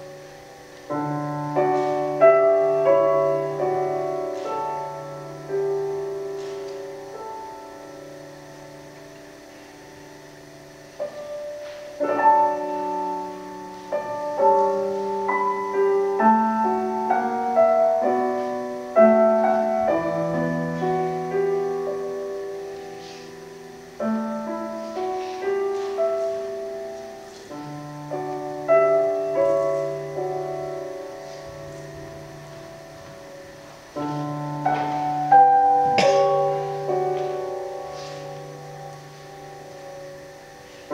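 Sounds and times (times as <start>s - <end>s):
solo piano music: 0.0s - 40.9s.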